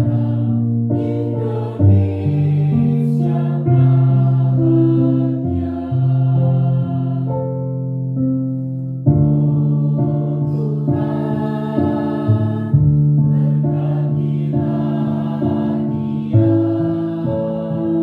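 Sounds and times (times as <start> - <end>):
children's choir singing: 0.0 - 7.7, 9.2 - 18.0
keyboard accompaniment: 0.0 - 18.0.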